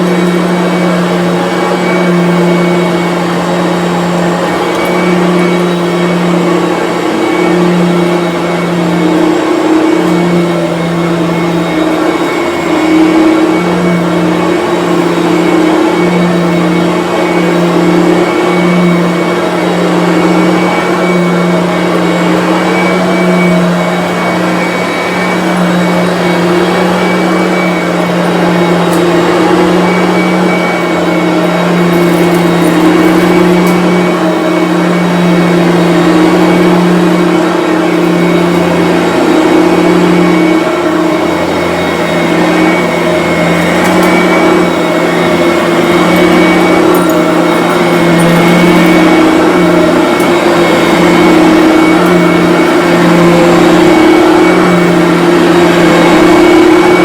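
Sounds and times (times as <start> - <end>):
vacuum cleaner on carpet: 0.0 - 57.0.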